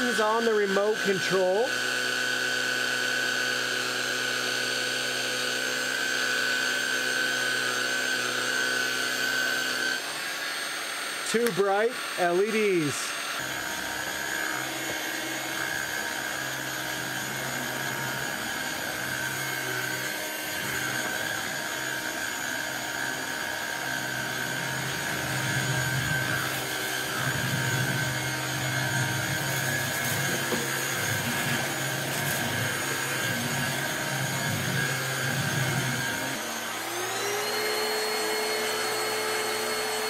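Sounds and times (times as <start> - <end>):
stick vacuum running: 0.0 - 40.0.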